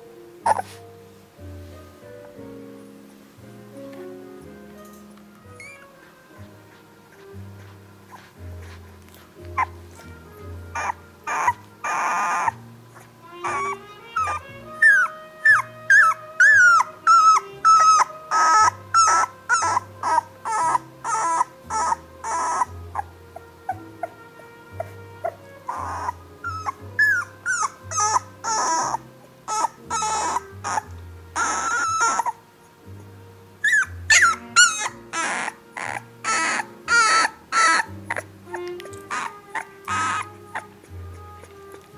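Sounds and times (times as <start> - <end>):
puppies whimpering: 0.5 - 0.8, 5.5 - 32.4, 33.0 - 41.9.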